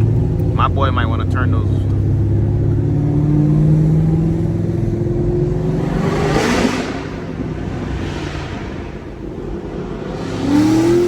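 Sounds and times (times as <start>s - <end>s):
car engine pulling under load: 0.0s - 11.0s.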